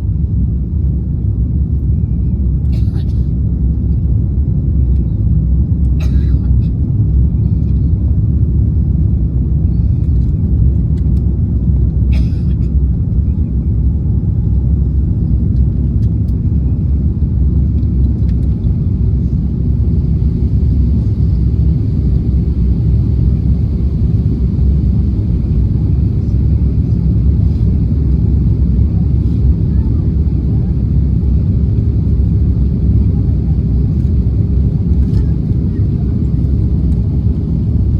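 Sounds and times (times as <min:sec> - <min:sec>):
airliner cabin rumble: 0:00.0 - 0:37.9.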